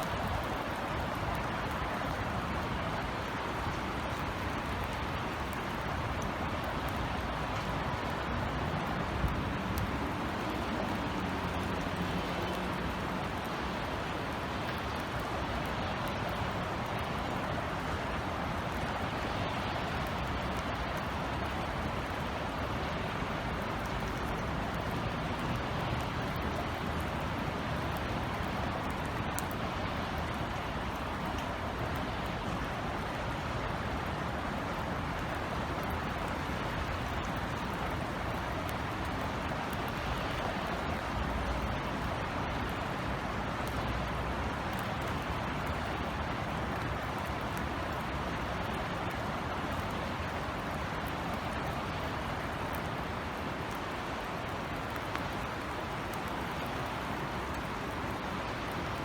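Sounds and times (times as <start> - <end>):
raindrop ticks: 0.0 - 59.0
steady rain hiss: 0.0 - 59.0
low traffic rumble: 0.1 - 59.0.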